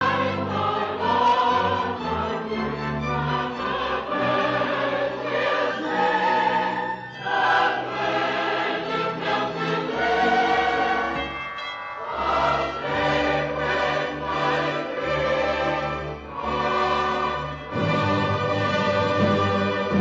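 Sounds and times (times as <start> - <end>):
choir singing held notes: 0.0 - 20.0
orchestra playing: 0.0 - 20.0.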